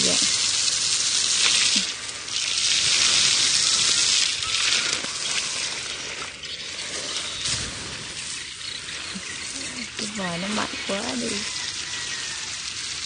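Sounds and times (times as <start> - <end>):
water jet from hose splashing soil: 0.0 - 13.0.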